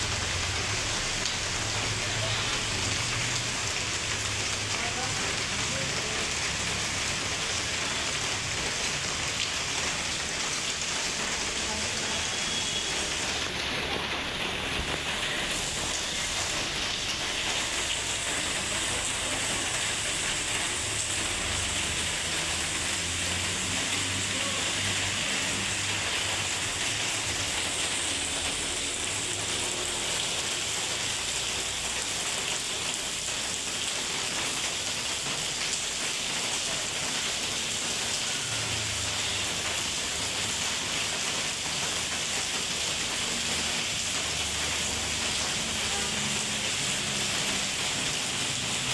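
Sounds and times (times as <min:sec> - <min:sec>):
rain falling on hard surfaces: 0:00.0 - 0:48.9.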